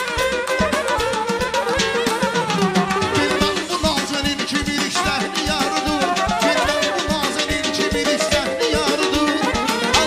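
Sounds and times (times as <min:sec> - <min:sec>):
saxophone melody: 0:00.0 - 0:10.0
steady drumbeat: 0:00.0 - 0:10.0.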